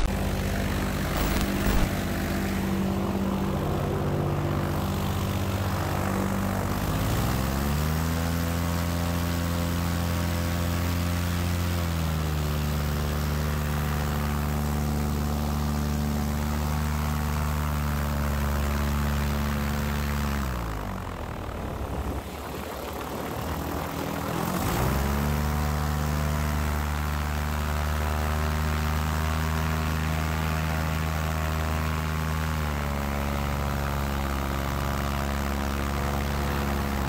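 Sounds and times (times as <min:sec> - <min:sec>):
airboat engine and propeller: 0:00.0 - 0:37.0.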